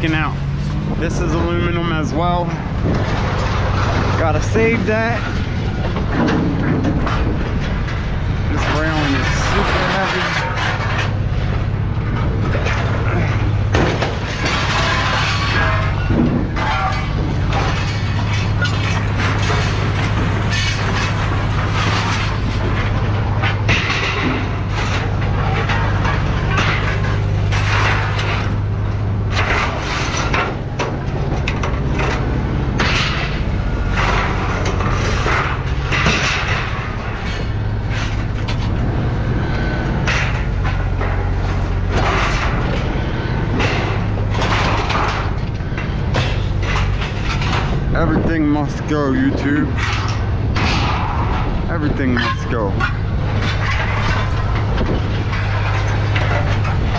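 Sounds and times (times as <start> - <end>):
scrap metal clanging and crashing: 0.0 - 56.9
steady low hum: 0.0 - 56.9.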